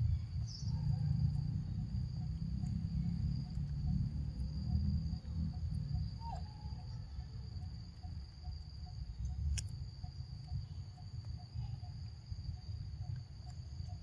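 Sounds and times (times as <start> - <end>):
insects droning: 0.0 - 14.0
low rumble: 0.0 - 14.0.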